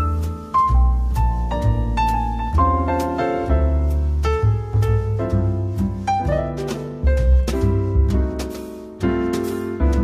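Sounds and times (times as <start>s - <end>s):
low bass: 0.0s - 10.0s.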